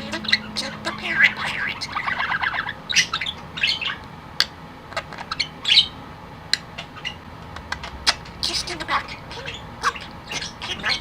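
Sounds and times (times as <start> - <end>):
budgerigar mimicked talk: 0.0 - 4.0, 4.9 - 6.0, 6.6 - 11.0
budgerigar chirping and warbling: 0.0 - 11.0.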